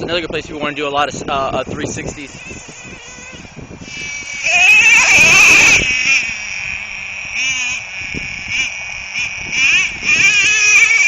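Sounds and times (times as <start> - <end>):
nitro engine revving: 2.1 - 11.0.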